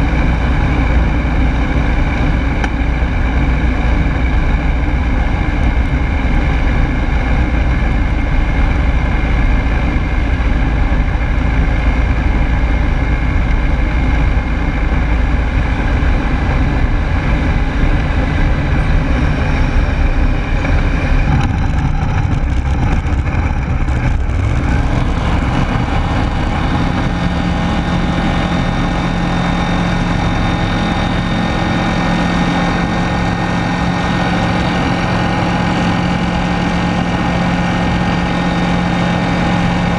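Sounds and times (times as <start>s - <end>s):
ultralight aircraft engine and propeller: 0.0s - 39.9s.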